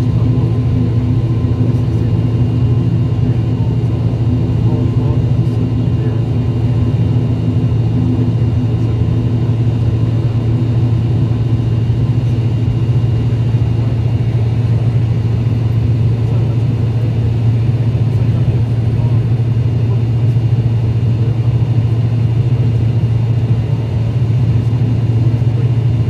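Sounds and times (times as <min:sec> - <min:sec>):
aircraft engines droning in cabin: 0:00.0 - 0:26.0.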